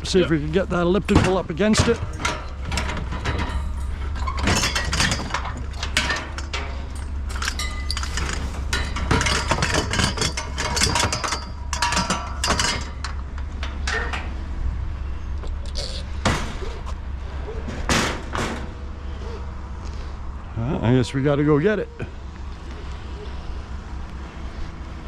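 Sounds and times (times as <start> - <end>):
scrap metal clanking and rattling: 0.0 - 20.1
steady low rumble: 0.0 - 25.0.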